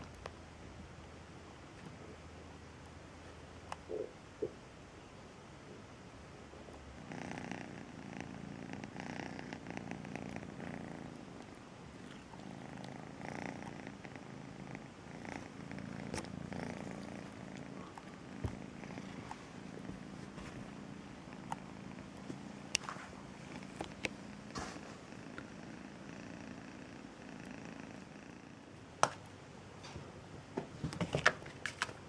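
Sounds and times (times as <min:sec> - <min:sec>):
cat purring: 0:00.0 - 0:04.7, 0:05.6 - 0:31.1.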